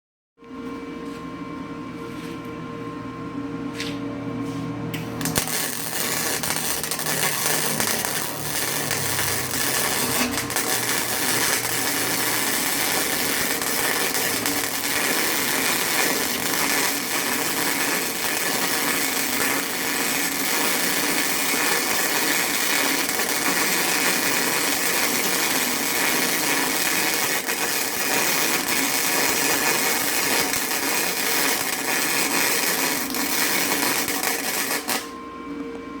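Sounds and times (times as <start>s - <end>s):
welding arc crackling hiss: 5.2s - 35.1s.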